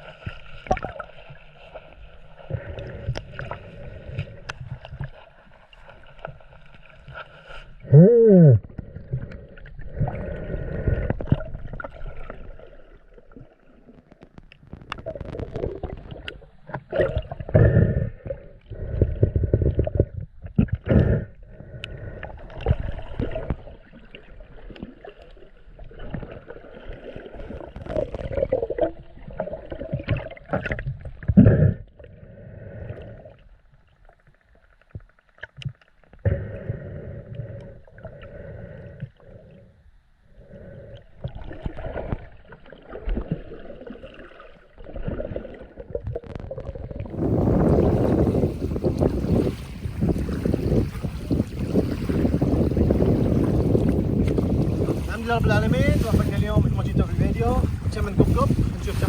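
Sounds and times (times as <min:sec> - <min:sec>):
muffled water sloshing underwater: 0:00.0 - 0:59.0.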